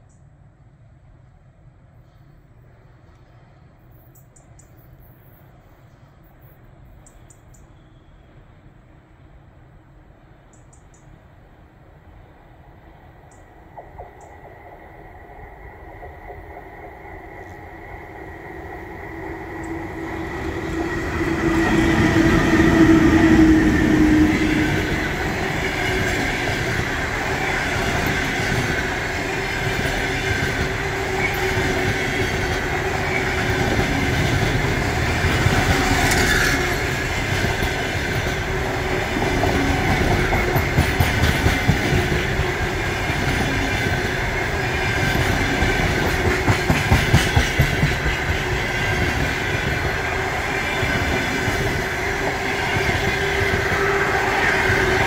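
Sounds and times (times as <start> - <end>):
passenger train rumbling past: 0.0 - 55.0.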